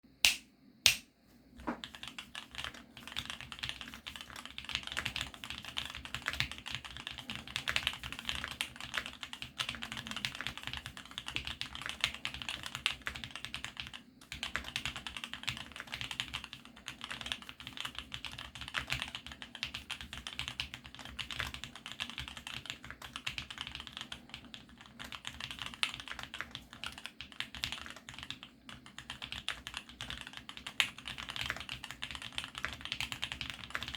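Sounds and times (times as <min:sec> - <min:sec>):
mechanical keyboard typing: 0:01.8 - 0:33.9.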